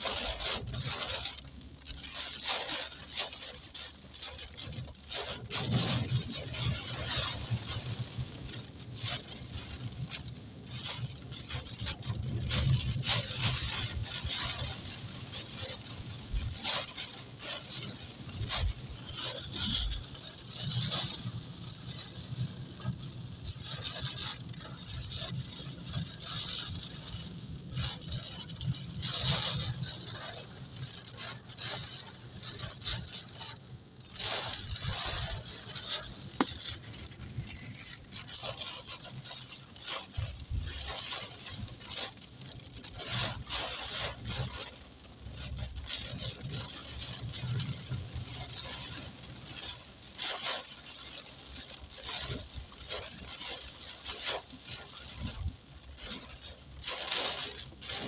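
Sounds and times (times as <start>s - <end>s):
rain pattering on car roof: 0.0s - 58.0s
tyres hissing on wet road: 0.0s - 58.0s.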